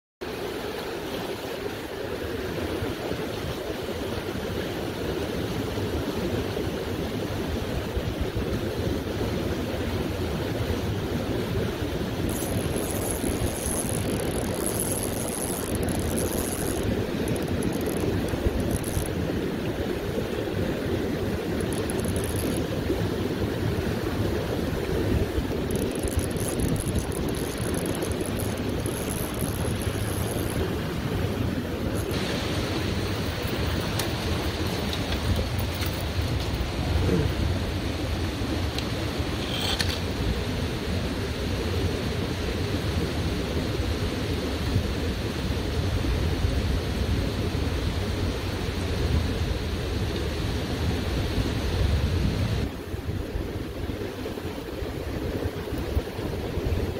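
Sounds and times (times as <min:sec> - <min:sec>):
river water rushing over rocks: 0:00.2 - 0:56.9.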